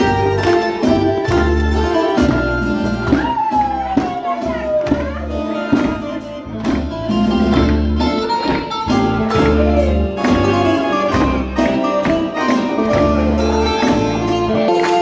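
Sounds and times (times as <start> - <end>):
keyboards: 0.0 - 15.0.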